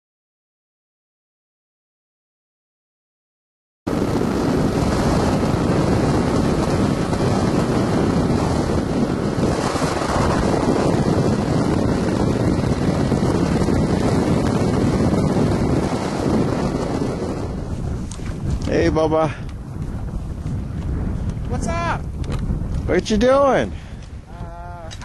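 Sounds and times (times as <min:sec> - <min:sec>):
wind buffeting microphone: 0:03.9 - 0:25.0.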